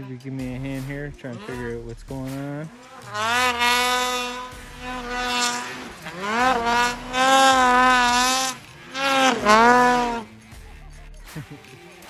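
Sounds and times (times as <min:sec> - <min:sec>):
snowmobile engine revving: 0:00.5 - 0:10.3.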